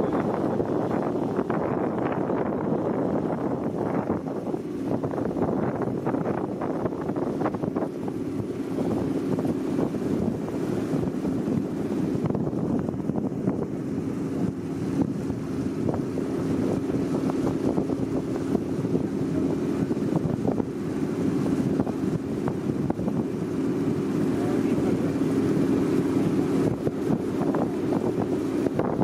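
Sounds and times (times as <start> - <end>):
boat engine humming: 0.0 - 29.0
wind buffeting microphone: 0.0 - 29.0.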